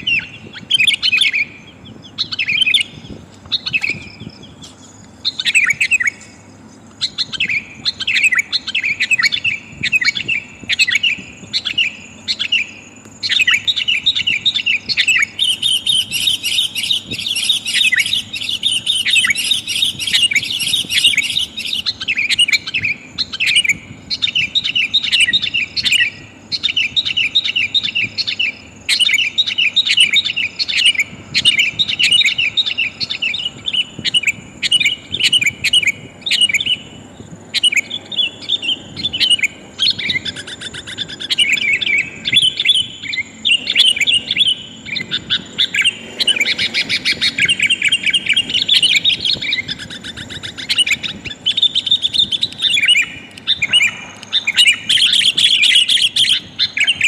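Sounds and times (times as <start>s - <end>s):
bulbul chattering calls: 0.0s - 57.0s.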